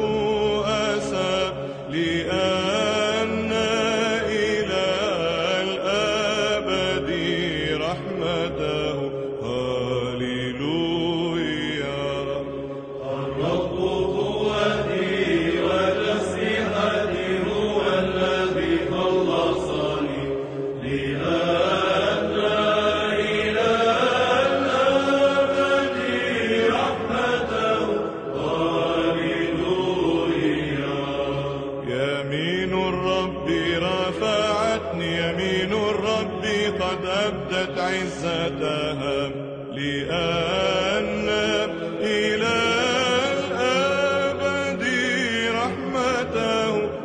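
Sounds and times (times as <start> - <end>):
voices chanting slow melody: 0.0 - 47.0.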